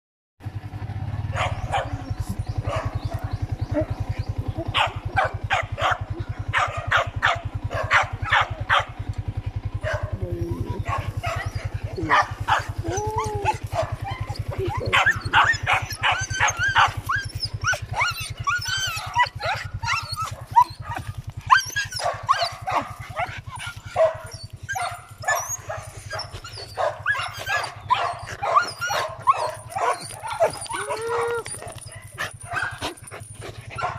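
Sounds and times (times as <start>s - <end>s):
motorcycle engine idling: 0.4s - 33.9s
dogs barking: 0.5s - 33.9s
dogs yipping and whining: 0.6s - 33.9s.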